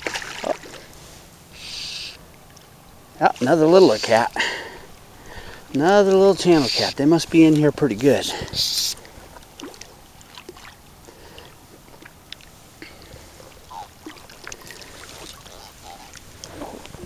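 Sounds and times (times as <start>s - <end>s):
light water splashing: 0.0s - 1.1s, 2.2s - 17.0s
small water ticks: 2.2s - 7.7s, 8.4s - 17.0s.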